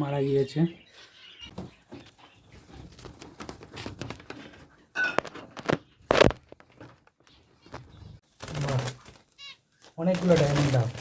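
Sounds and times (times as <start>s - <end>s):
hands rustling in bird cage: 1.5s - 11.0s.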